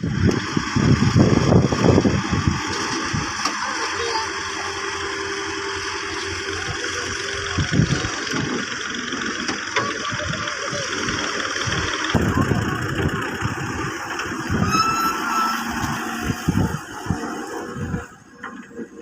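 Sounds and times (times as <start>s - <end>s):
heavy machinery engine running: 0.0s - 19.0s
steady whine: 0.0s - 19.0s.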